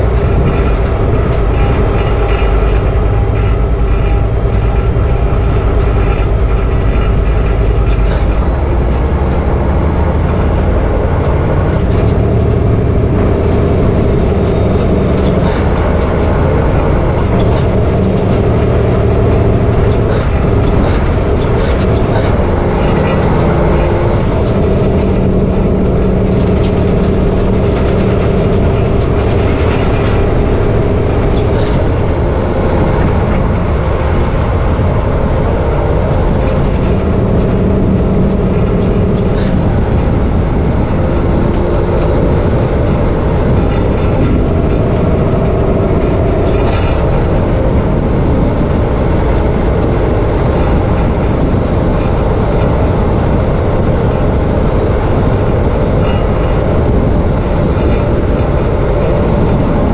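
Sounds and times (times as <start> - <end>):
sharp clicks and rattles: 0.0 - 59.9
truck engine driving: 0.0 - 59.9.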